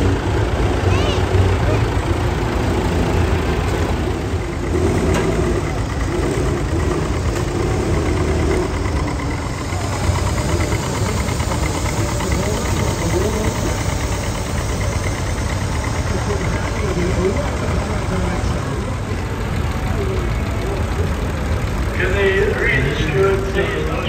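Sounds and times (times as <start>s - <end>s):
tractor diesel engines running: 0.0s - 24.0s.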